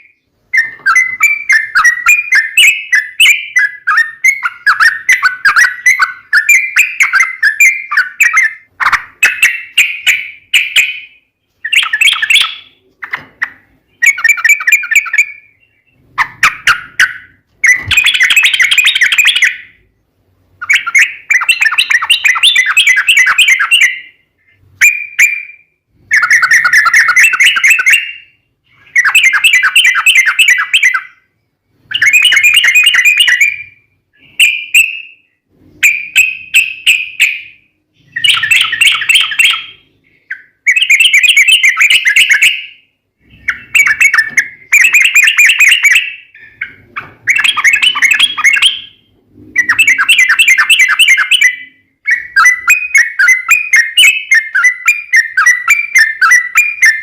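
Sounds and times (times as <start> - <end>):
bulbul singing rolling song: 0.0 - 57.0.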